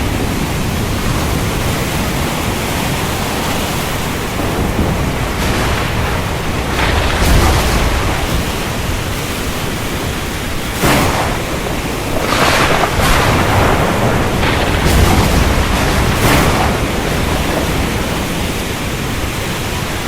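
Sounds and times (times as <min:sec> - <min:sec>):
heavy rain falling: 0:00.0 - 0:20.0
thunder crack and rumbles: 0:00.0 - 0:20.0.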